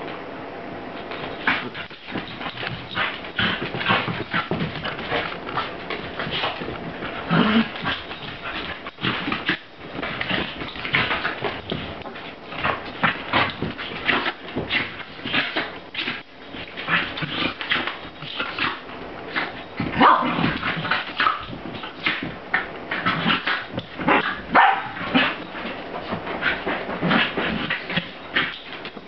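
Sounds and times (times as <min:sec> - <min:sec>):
puppies scuffling: 0:00.9 - 0:29.0.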